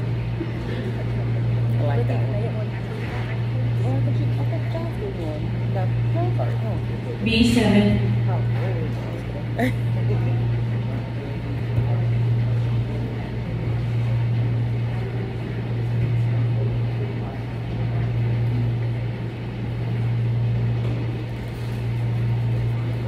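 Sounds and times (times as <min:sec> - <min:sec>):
faint murmur: 0:00.0 - 0:23.0
steady low hum: 0:00.0 - 0:23.0.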